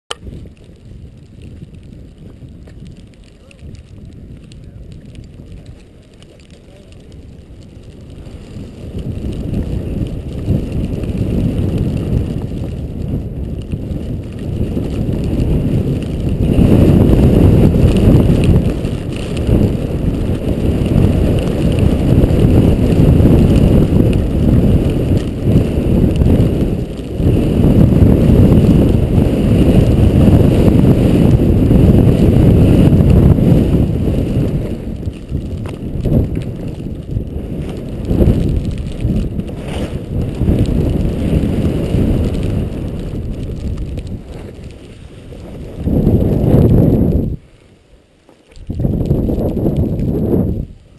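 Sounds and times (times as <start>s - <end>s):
wind buffeting microphone: 0.1s - 47.5s, 48.5s - 50.9s.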